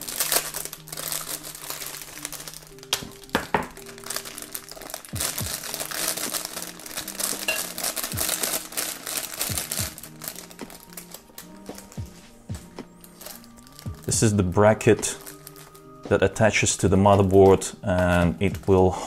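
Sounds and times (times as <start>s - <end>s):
plastic bag crinkling: 0.0s - 18.8s
soft background music: 0.0s - 19.0s.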